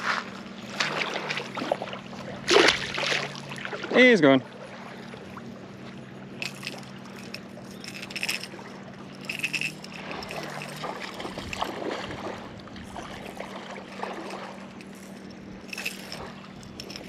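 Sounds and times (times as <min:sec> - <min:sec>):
steady low hum: 0:00.0 - 0:17.0
water splashing and lapping: 0:00.0 - 0:17.0.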